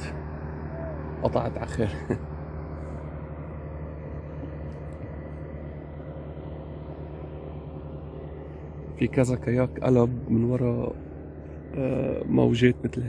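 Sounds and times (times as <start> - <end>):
motorboat engine drone: 0.0 - 13.0.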